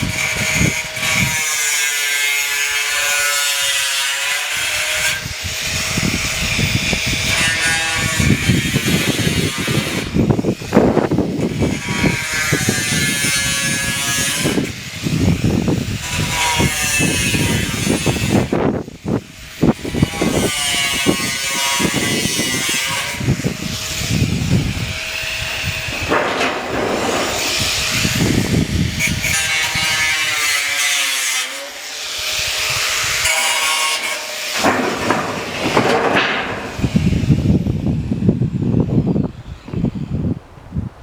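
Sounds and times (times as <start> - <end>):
power tool cutting steel sheet: 0.0 - 38.2.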